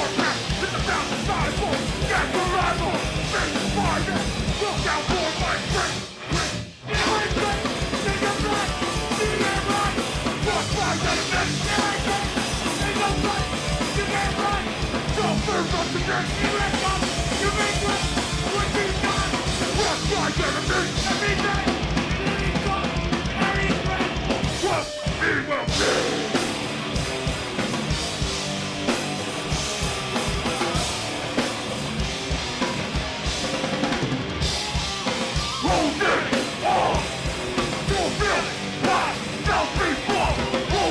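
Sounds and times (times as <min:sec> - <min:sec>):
live heavy punk band playing: 0:00.0 - 0:40.9.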